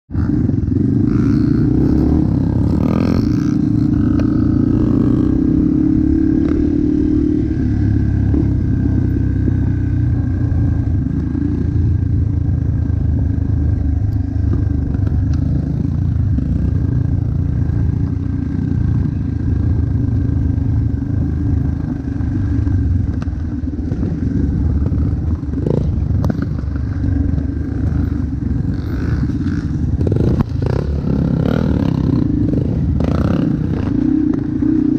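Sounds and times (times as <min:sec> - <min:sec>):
dirt bike engine running: 0:00.1 - 0:34.9.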